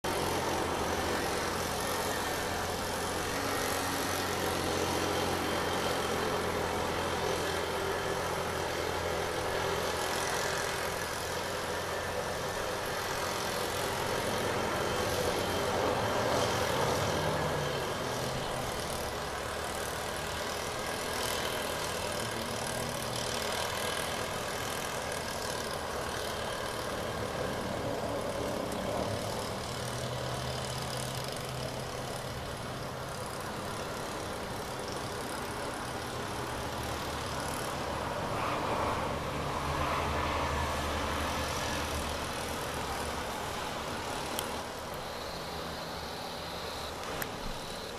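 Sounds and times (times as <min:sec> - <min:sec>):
engine running with low hum: 0:00.0 - 0:47.9.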